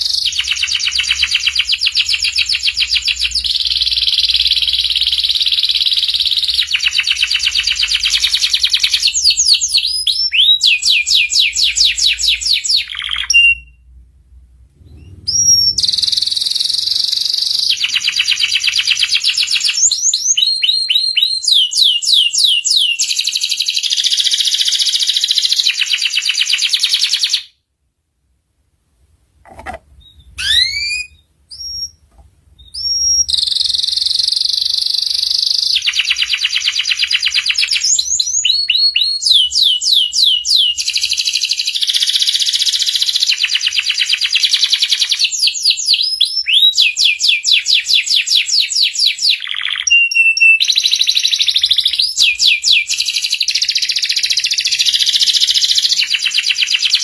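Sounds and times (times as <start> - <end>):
canary singing trills: 0.0 - 13.9, 14.8 - 27.5, 30.0 - 57.0.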